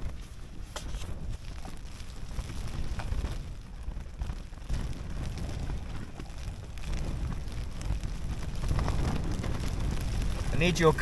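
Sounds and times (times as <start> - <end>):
rain tapping: 0.0 - 11.0
wind buffeting microphone: 0.0 - 11.0.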